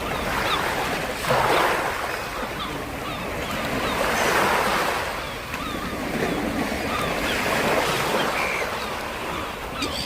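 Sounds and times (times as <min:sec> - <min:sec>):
waves washing against shore: 0:00.0 - 0:10.0.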